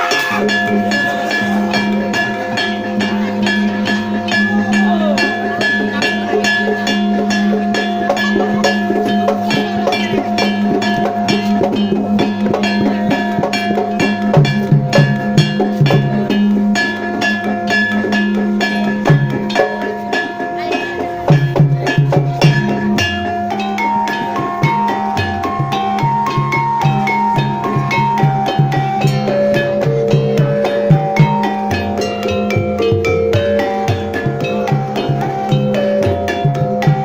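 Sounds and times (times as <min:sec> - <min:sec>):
gamelan percussion beat: 0:00.0 - 0:37.0.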